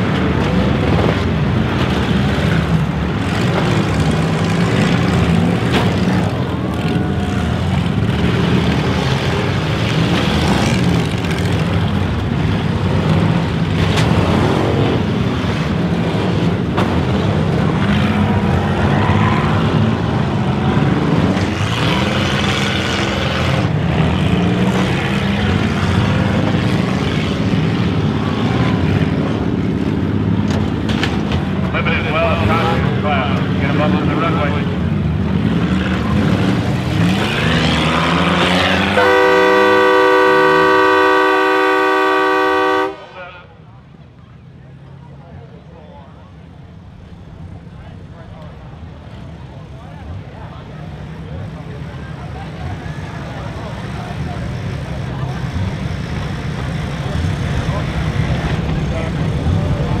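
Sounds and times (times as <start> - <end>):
car engines revving hard: 0.0 - 60.0.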